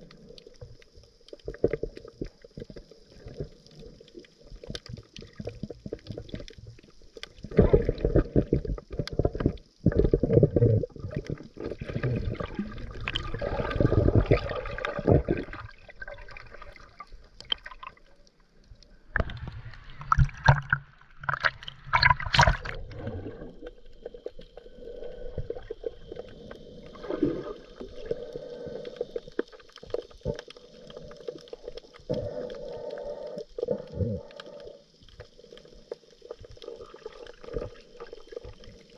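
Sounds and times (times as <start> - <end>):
underwater bubbles gurgling: 0.0 - 38.9
water noise: 0.0 - 38.9.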